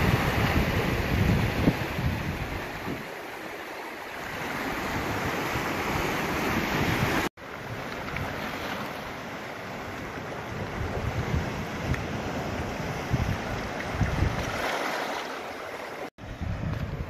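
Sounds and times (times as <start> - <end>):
wind rumbling on microphone: 0.0 - 3.2, 4.2 - 14.9, 16.2 - 17.0
surf washing over rocks: 0.0 - 17.0.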